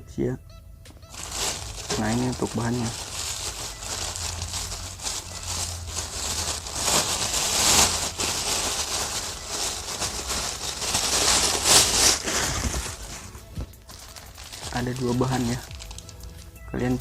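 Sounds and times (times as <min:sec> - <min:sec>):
plastic packets crinkling: 0:00.9 - 0:17.0.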